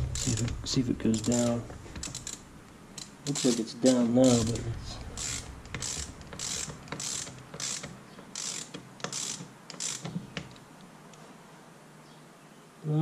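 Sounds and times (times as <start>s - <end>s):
ratchet wrench clicking: 0.0s - 10.6s.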